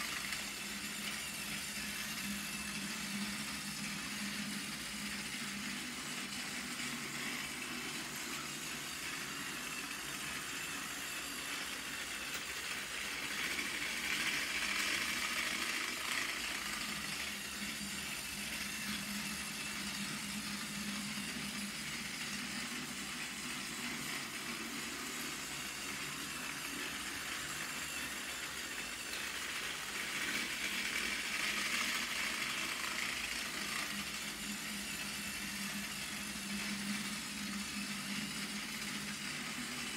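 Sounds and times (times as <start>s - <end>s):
toy train motor whirring: 0.0s - 39.9s.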